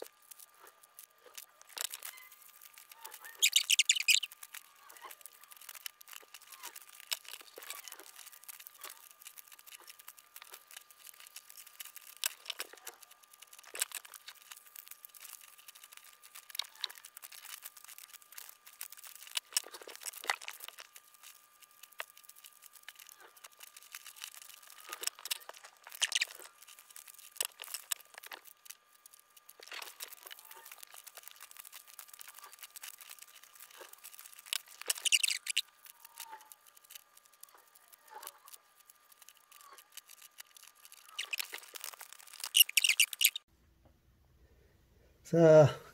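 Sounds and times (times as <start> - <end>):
paper rustling and crinkling: 4.2 - 43.4.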